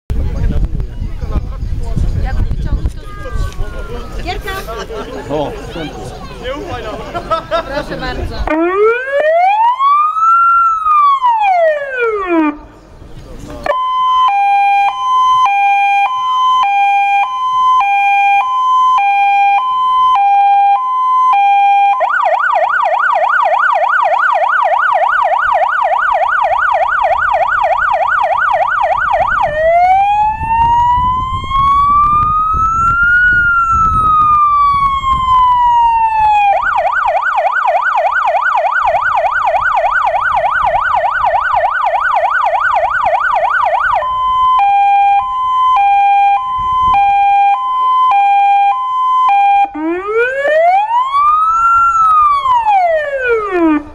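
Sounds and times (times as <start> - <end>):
fire engine siren: 8.4 - 12.8, 13.6 - 53.9.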